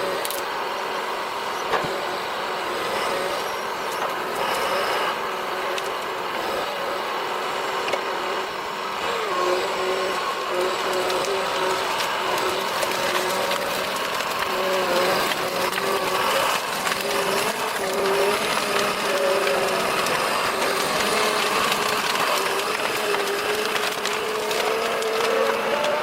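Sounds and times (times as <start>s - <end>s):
heavy machine engine whining: 0.0s - 26.0s.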